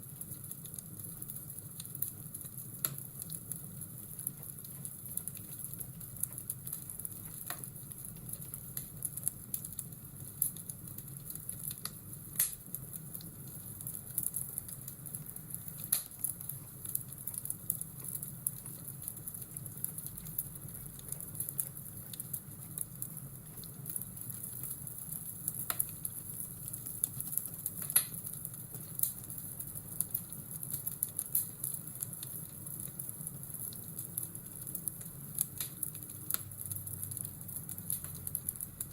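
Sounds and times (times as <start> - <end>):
fireplace crackling and popping: 0.0 - 38.9.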